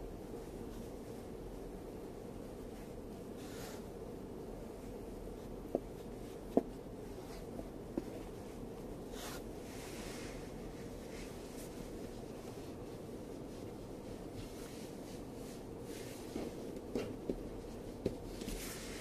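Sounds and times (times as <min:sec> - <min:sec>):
soft hisses: 0:00.2 - 0:16.7, 0:17.6 - 0:19.0.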